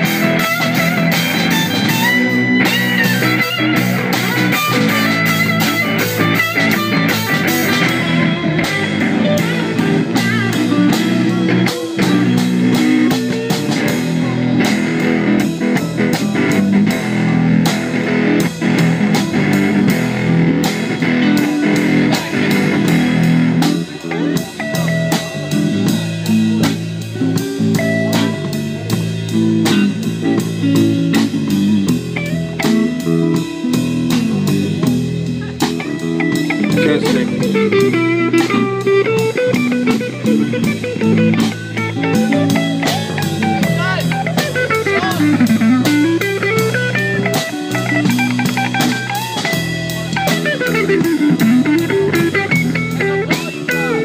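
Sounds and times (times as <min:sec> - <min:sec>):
drum kit beat: 0:00.0 - 0:54.0
electric guitar: 0:00.0 - 0:54.0.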